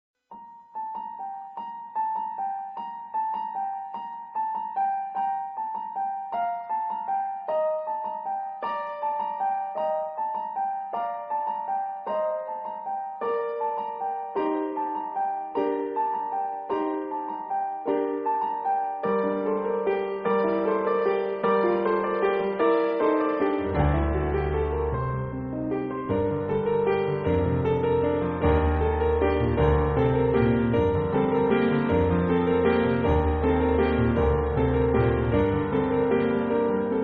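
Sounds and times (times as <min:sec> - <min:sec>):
light piano music: 0:00.2 - 0:37.0.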